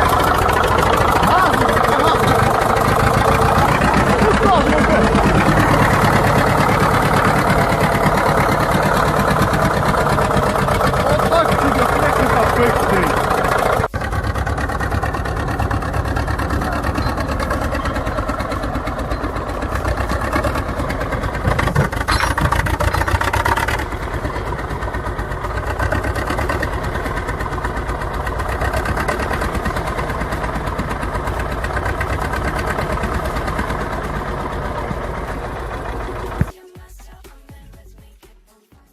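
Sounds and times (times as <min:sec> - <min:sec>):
diesel bulldozer engine running: 0:00.0 - 0:36.5.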